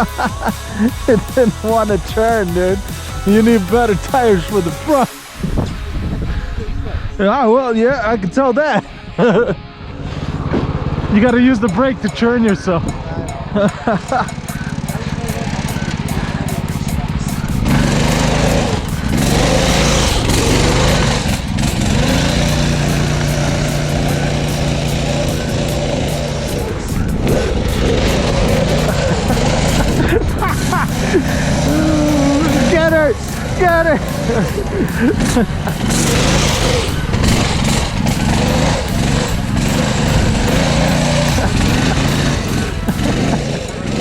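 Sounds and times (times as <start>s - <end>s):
go-kart engine running hard: 0.0s - 6.9s, 9.2s - 44.0s.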